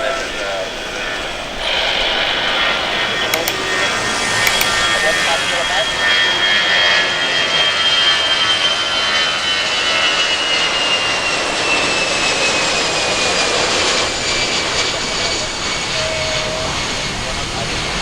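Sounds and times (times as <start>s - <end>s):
jet engines at takeoff: 0.0s - 18.0s.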